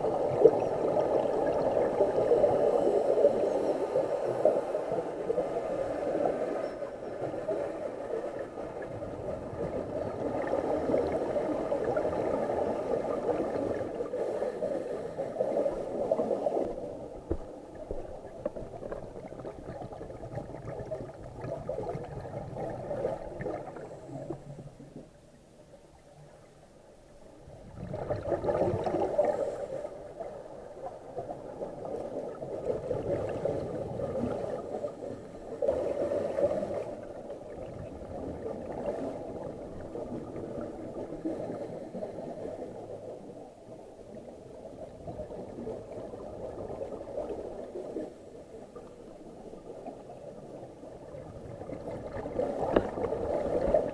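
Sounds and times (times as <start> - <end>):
regulator bubbles gurgling underwater: 0.0 - 53.9.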